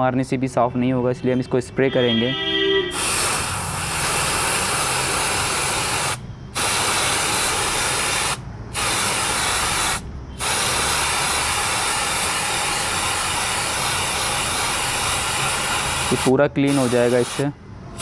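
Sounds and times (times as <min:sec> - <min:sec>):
aerosol spray hissing: 0:02.9 - 0:18.0.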